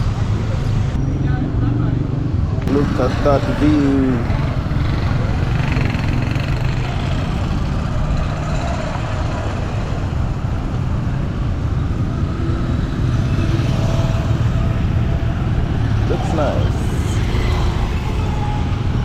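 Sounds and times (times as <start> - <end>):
road noise: 0.0 - 19.0
vehicle engine rumble: 0.0 - 19.0.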